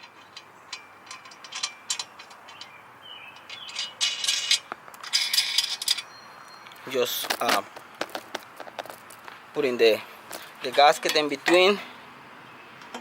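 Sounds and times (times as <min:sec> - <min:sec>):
metal bolts and nuts clinking: 0:00.0 - 0:02.7, 0:03.3 - 0:11.9.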